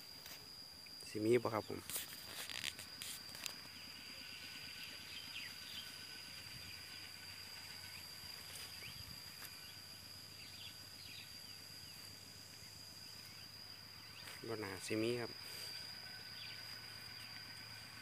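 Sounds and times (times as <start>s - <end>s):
faint outdoor hiss: 0.0s - 18.0s
high-pitched insect trill: 0.0s - 18.0s.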